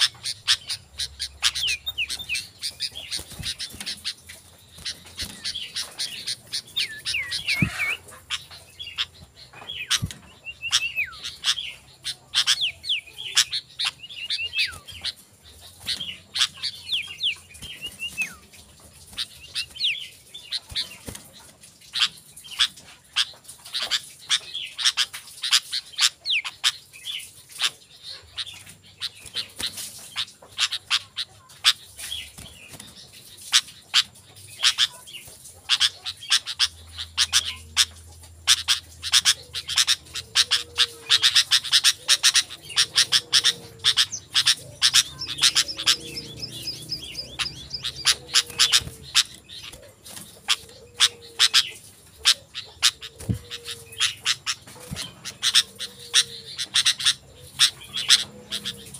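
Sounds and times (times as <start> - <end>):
birds chattering calls: 0.0 - 58.9.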